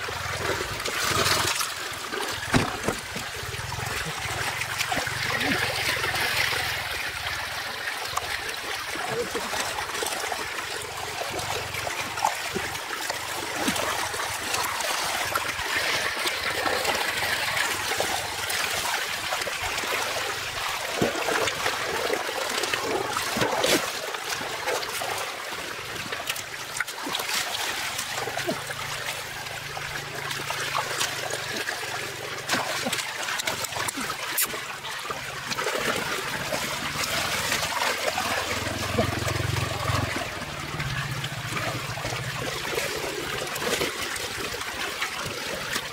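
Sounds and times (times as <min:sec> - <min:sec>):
sharp water splashes: 0:00.0 - 0:45.9.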